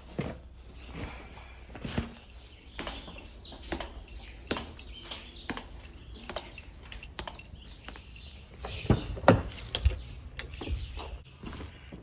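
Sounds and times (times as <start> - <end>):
footsteps on tiled ground: 0.0 - 12.0.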